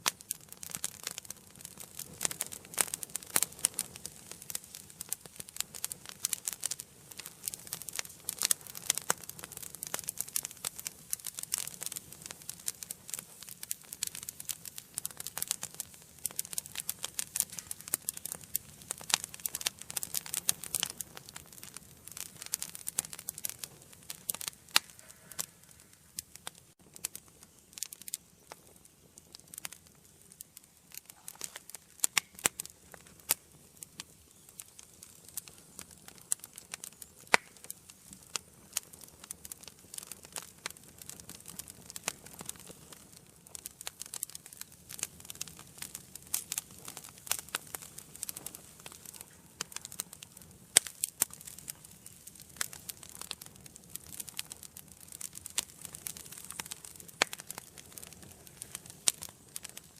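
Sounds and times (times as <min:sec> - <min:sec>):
hiss of flames: 0:00.0 - 0:59.9
wood fire crackling and popping: 0:00.0 - 0:59.9.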